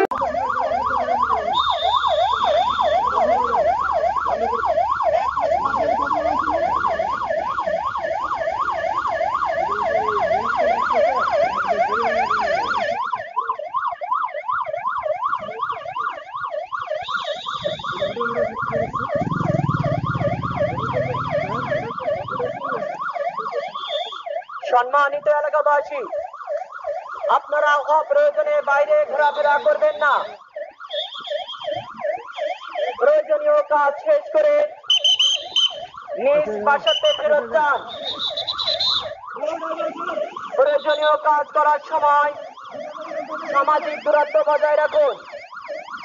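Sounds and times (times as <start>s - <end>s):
electronic siren yelping: 0.0s - 46.0s.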